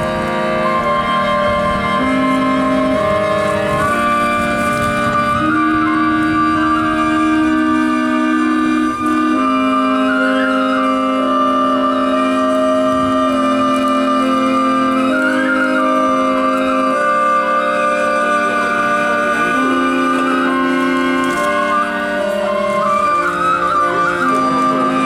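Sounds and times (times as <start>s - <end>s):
sustained chords: 0.0s - 25.0s.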